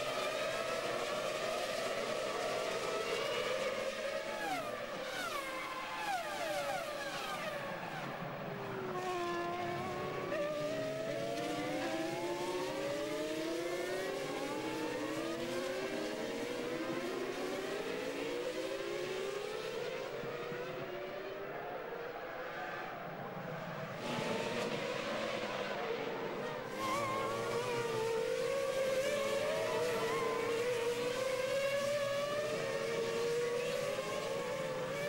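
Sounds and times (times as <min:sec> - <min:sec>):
racing car engines: 0:00.0 - 0:35.0.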